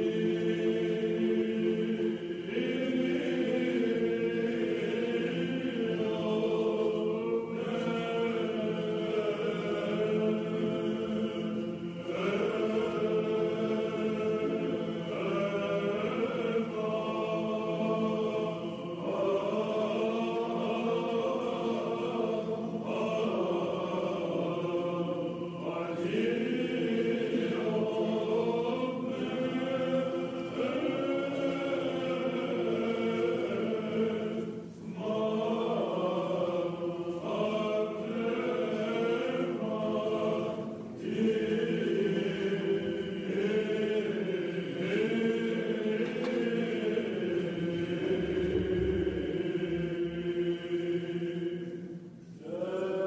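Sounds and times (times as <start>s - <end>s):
choir chanting: 0.0s - 53.0s.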